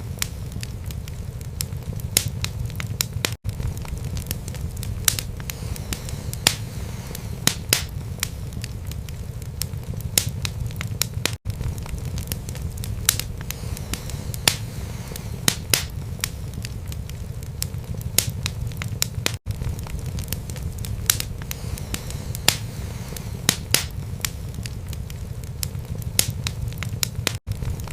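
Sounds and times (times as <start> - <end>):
burning logs crackling and popping: 0.0 - 27.9
rumble of fire flames: 0.0 - 27.9.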